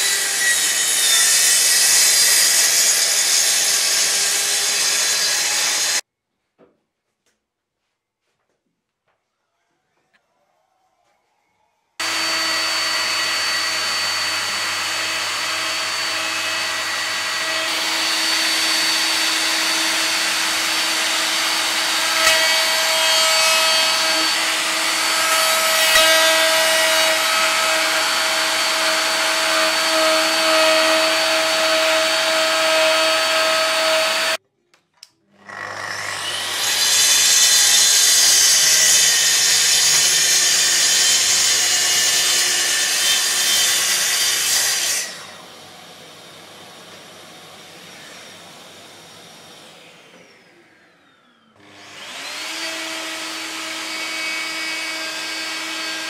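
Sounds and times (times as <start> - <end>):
electric router whining: 0.0 - 6.0, 12.0 - 34.4, 35.4 - 56.0
track saw cutting: 0.0 - 6.0, 12.0 - 34.4, 35.4 - 56.0.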